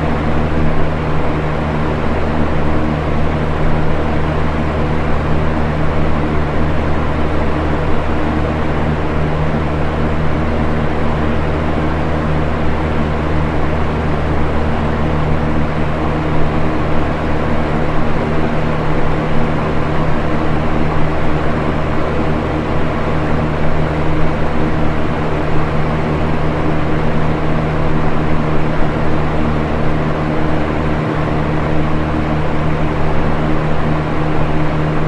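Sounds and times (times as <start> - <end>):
electric fan running: 0.0 - 35.0.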